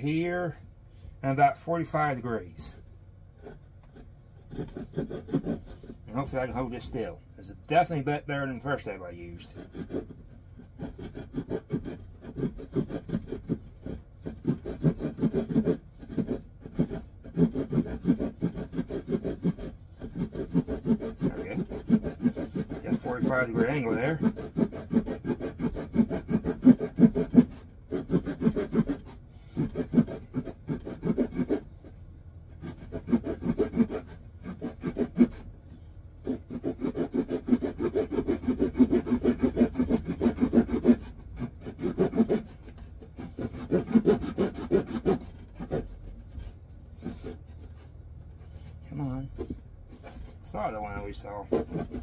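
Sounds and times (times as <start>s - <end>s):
hand saw cutting wood: 3.4s - 52.0s.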